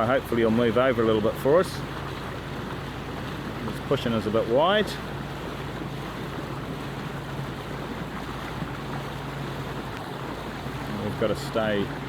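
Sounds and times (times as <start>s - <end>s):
boat engine humming: 0.0s - 12.0s
rushing water: 0.0s - 12.0s
wind: 0.0s - 12.0s.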